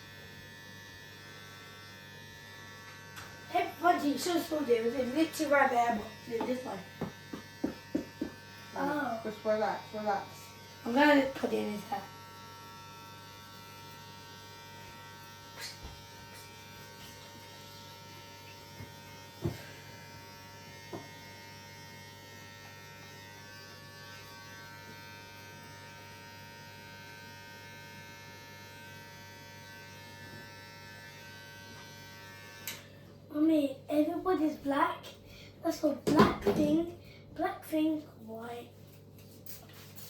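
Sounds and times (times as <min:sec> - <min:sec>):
electric hair clippers running: 0:00.0 - 0:33.2.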